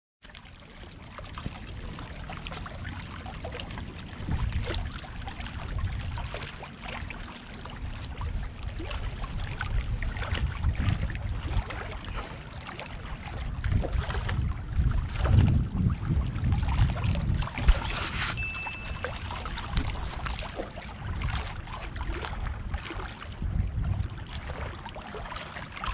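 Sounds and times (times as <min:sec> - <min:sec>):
wind buffeting microphone: 0:01.3 - 0:06.5, 0:07.7 - 0:25.9.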